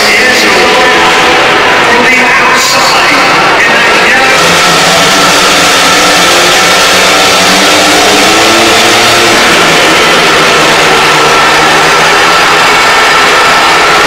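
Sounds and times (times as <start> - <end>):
motorcycles revving: 0.0 - 14.0.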